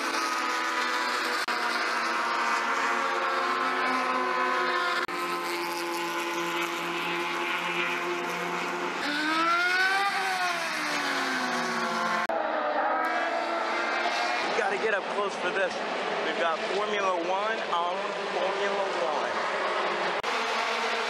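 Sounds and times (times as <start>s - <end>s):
race car engines: 0.0s - 21.0s
race car passing: 0.0s - 21.0s.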